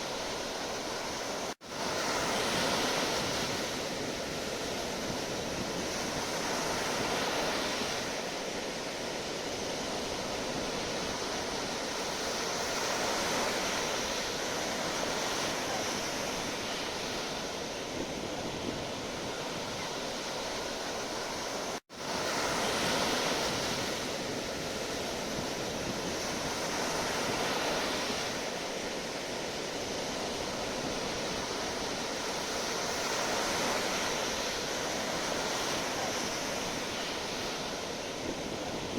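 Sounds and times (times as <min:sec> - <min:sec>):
sea waves rushing: 0:00.0 - 0:38.9.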